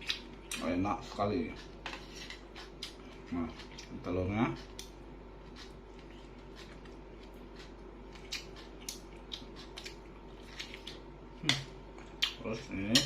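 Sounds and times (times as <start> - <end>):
person chewing noodles: 0.0 - 12.4
faint steady hum: 0.0 - 13.0.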